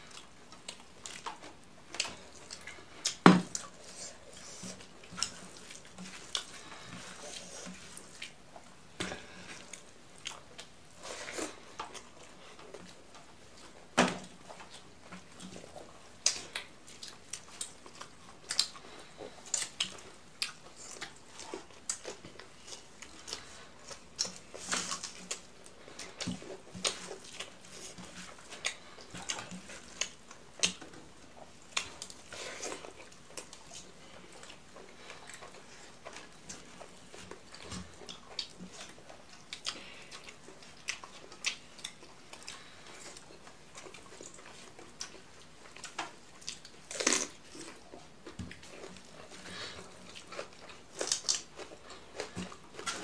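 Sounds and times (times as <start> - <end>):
chewing and lip smacking: 0.0 - 13.8, 14.4 - 53.0.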